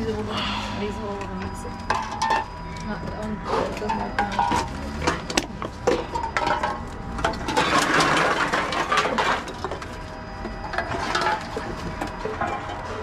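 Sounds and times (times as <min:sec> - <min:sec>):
drink cans clinking: 0:01.9 - 0:13.0.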